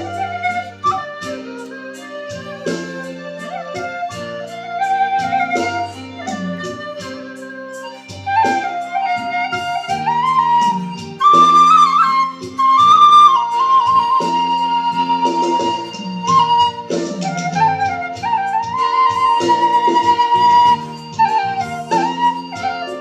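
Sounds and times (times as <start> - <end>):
backing chords and bass: 0.0 - 23.0
bamboo flute melody: 0.0 - 23.0.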